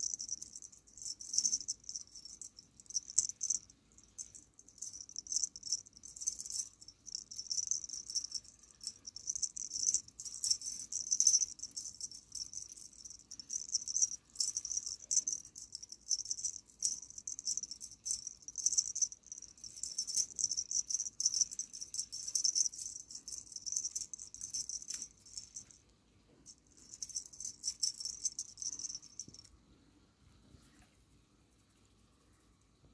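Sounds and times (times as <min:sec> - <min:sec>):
small bells jingling: 0:00.0 - 0:25.8, 0:26.4 - 0:29.5.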